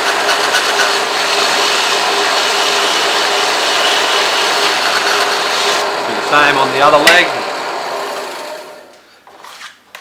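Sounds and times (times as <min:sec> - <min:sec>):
blade grinding on sanding belt: 0:00.0 - 0:08.7
drill press humming: 0:00.0 - 0:09.0.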